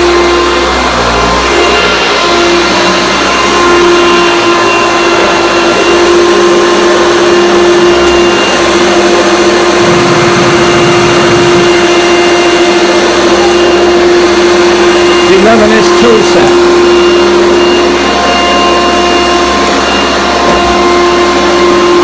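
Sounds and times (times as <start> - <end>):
vacuum cleaner humming: 0.0 - 22.0.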